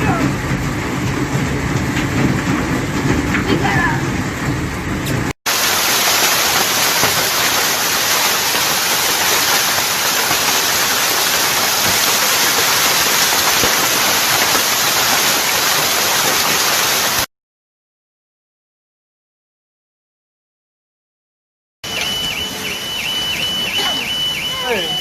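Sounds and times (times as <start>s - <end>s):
hail and rain pelting down: 0.0s - 17.3s, 21.9s - 25.0s.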